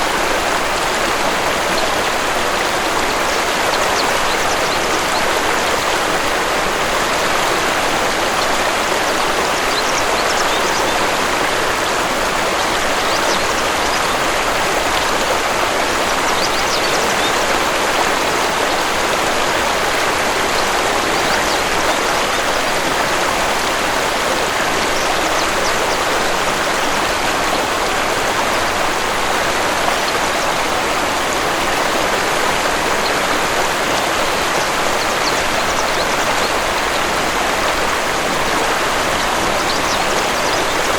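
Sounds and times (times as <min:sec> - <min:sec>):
waterfall and stream rushing: 0:00.0 - 0:40.9.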